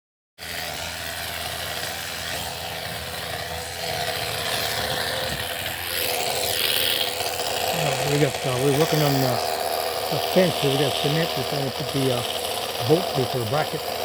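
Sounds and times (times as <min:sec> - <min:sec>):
hammer drill boring into concrete: 0:00.4 - 0:14.0.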